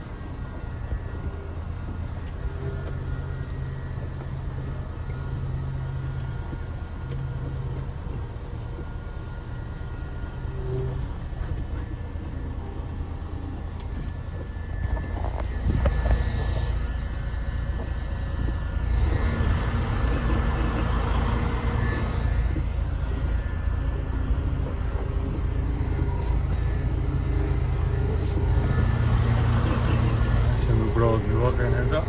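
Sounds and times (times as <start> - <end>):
diesel truck engine rumbling: 0.0 - 32.0.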